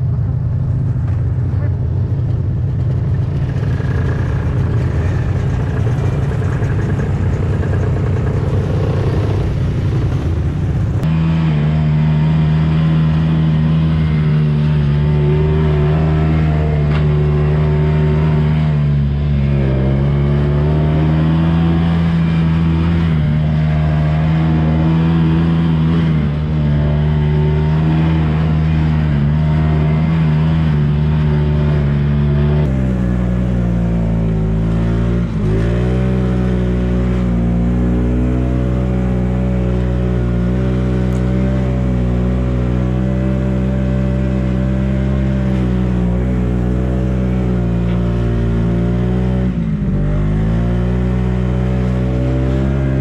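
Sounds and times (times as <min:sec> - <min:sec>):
snowmobile engine running: 0:00.0 - 0:53.0.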